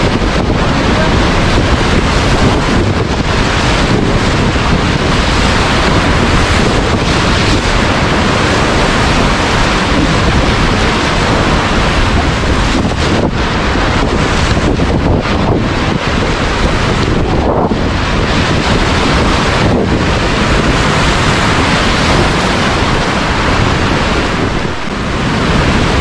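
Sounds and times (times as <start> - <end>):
whitewater rushing: 0.0 - 26.0.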